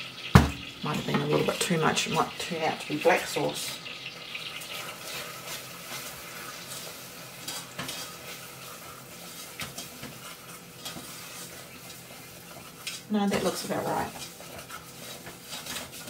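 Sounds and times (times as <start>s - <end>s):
low sizzle: 0.0s - 16.0s
wooden spoon stirring in a saucepan: 0.8s - 16.0s.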